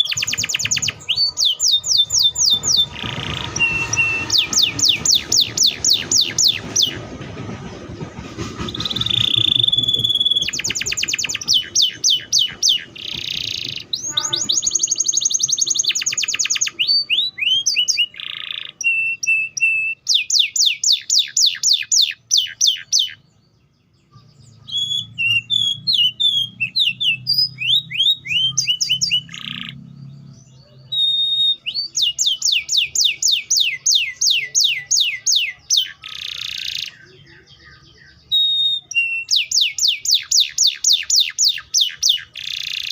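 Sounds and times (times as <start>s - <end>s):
canary singing: 0.0s - 7.1s, 8.6s - 42.9s.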